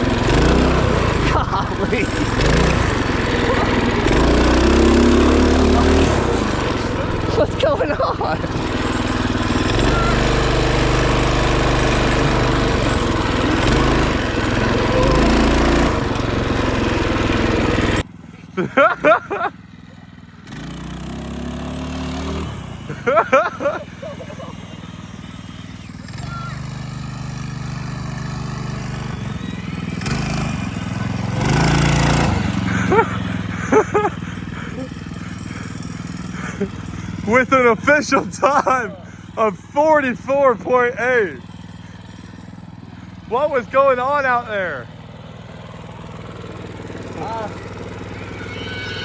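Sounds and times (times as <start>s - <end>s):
minibike engine running: 0.0s - 49.0s.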